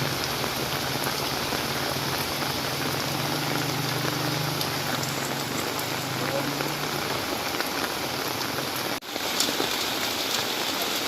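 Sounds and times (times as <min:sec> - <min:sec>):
rain on hard surfaces: 0:00.0 - 0:11.0.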